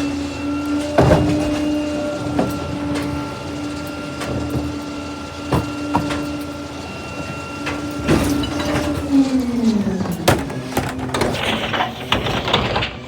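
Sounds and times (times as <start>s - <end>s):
garbage truck mechanical whine: 0.0s - 13.0s.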